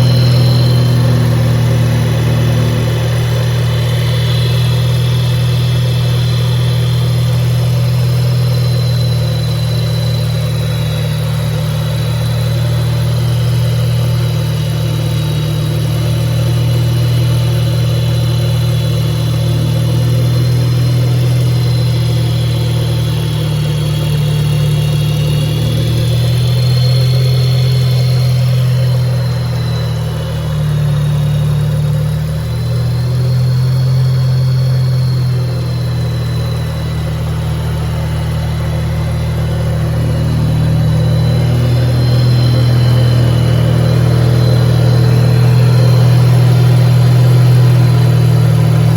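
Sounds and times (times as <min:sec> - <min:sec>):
rotary engine running: 0:00.0 - 0:48.9
thin high whine: 0:00.0 - 0:48.9.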